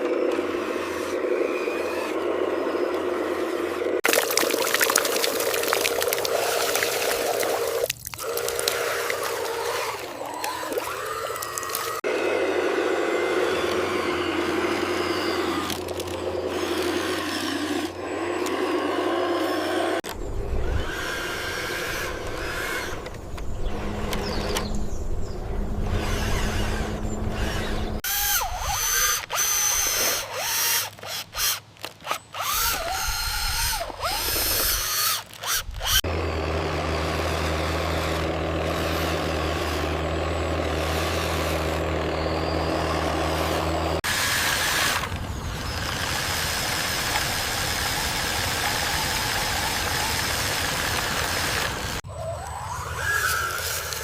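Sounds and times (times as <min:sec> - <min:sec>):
engine and machine noise: 0:00.0 - 0:54.0.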